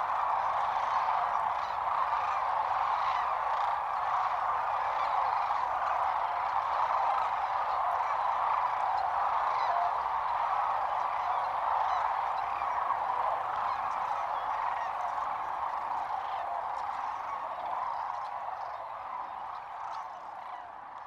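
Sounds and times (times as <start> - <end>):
flock of cranes calling: 0.0 - 21.0.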